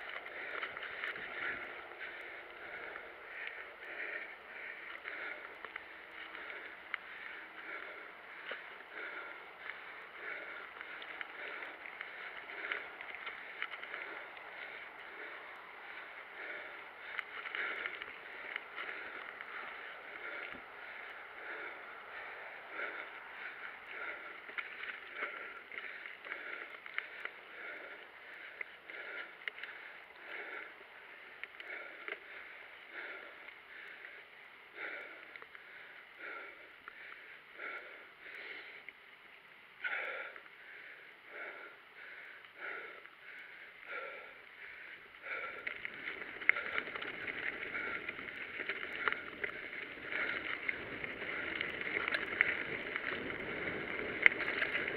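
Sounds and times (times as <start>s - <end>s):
mountain bike rolling on gravel: 0.0s - 54.9s.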